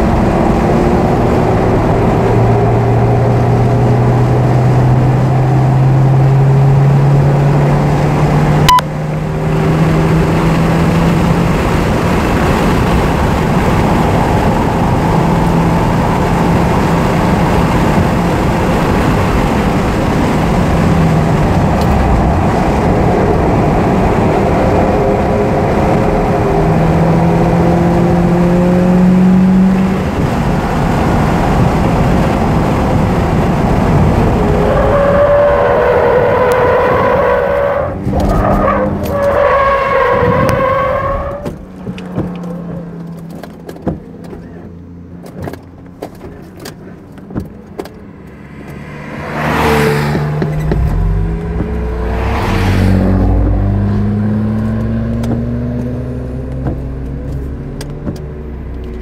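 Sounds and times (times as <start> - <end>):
car engine: 0.0 - 59.0
engine idling and revving: 0.0 - 59.0.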